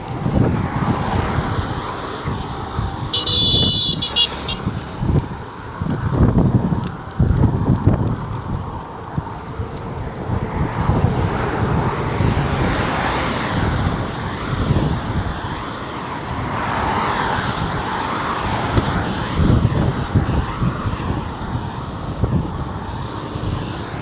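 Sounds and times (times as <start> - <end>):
highway traffic rushing past: 0.0 - 24.0.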